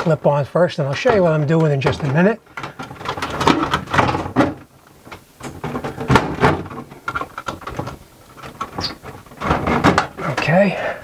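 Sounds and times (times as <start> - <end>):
metal knocking and scraping: 0.9 - 10.6.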